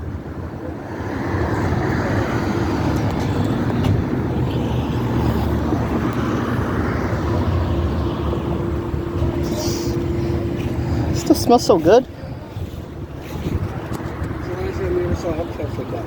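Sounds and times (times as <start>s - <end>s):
car engine running: 1.7s - 16.0s.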